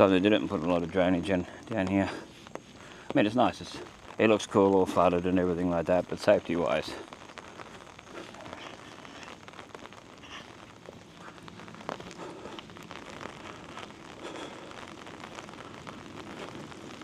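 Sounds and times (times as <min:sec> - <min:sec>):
raindrops ticking: 0:00.0 - 0:17.0
steady rain falling: 0:00.0 - 0:17.0.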